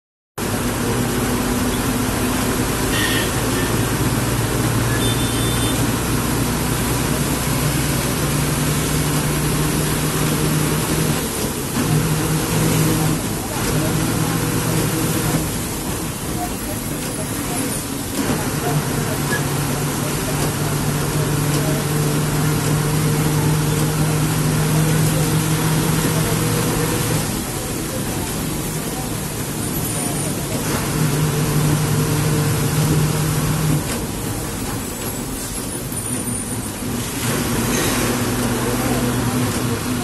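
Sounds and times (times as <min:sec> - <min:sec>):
bus engine running: 0:00.4 - 0:40.0
road noise: 0:00.4 - 0:40.0.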